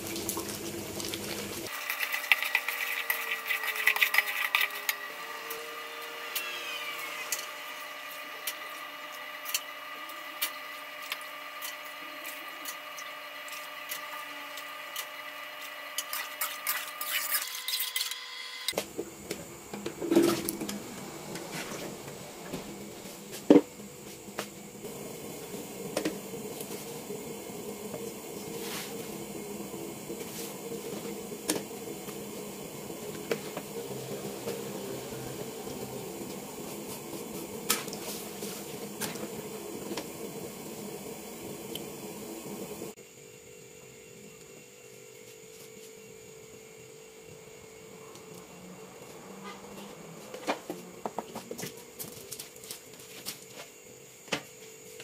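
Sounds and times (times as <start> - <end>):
steady whine: 2.7 - 54.2.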